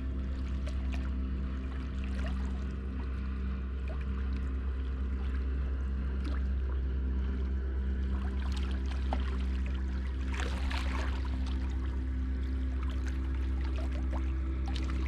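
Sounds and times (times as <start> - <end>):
steady low hum: 0.0 - 15.0
sea water splashing: 0.1 - 15.0.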